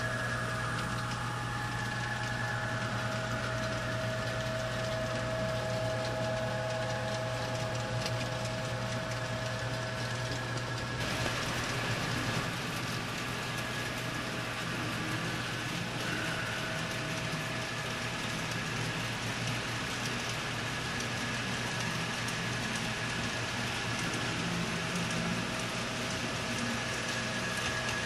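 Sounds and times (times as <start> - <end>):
model train mechanical hum: 0.0 - 28.0
wheels rolling on rails: 0.0 - 28.0.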